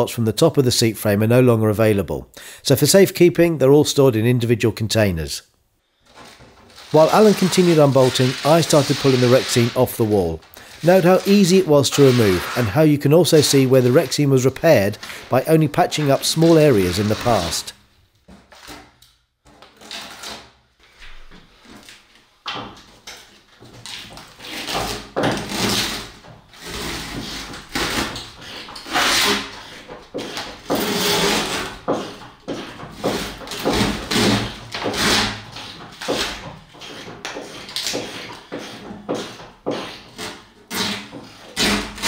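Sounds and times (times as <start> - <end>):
wall covering tearing and scraping: 5.8 - 42.0.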